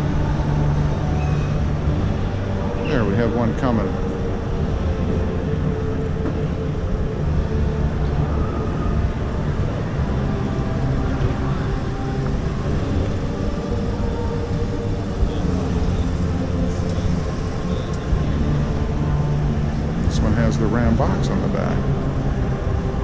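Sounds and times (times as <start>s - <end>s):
truck engine running at low speed: 0.0s - 23.0s.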